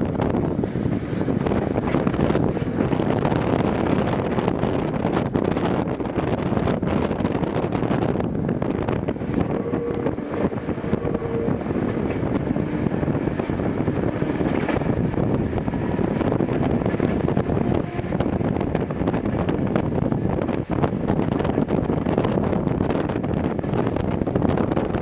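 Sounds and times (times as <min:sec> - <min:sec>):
railcar wheels and motors rumbling: 0:00.0 - 0:25.0
rushing wind noise: 0:00.0 - 0:25.0.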